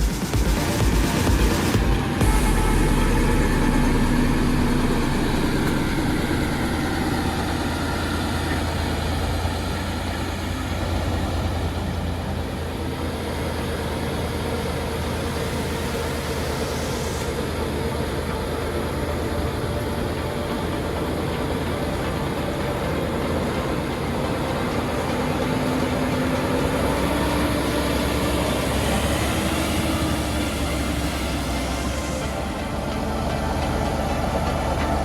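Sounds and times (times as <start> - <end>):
diesel tractor engine rumbling: 0.6 - 35.0.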